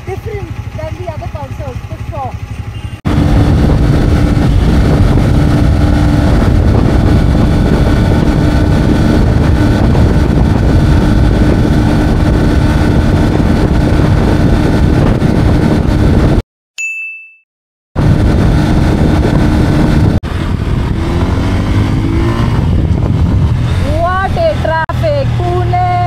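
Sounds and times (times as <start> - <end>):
motorcycle engine running flat out: 0.0 - 16.4, 18.0 - 26.0
wind rush on microphone: 3.1 - 16.4, 18.0 - 26.0.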